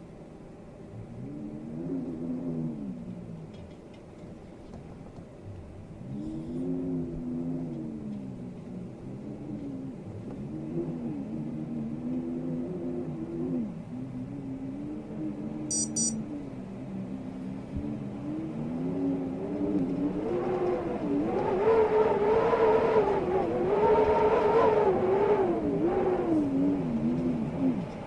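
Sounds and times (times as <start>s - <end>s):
storm wind howling in gusts: 5.0s - 28.0s.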